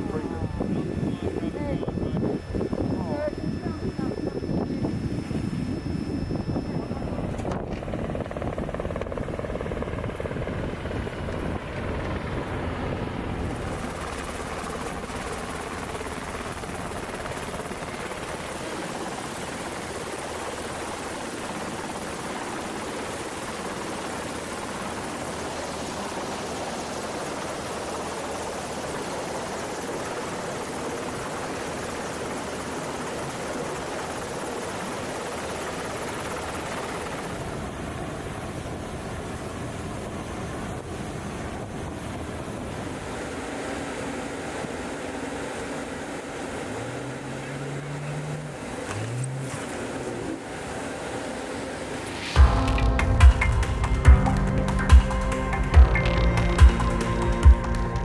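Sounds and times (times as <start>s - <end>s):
helicopter rotor and engine: 0.0s - 58.0s
thin high steady whine: 0.0s - 58.0s.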